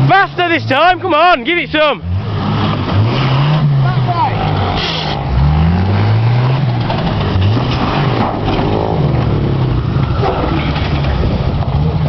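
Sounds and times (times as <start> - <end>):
car engine revving hard: 1.8 - 12.0.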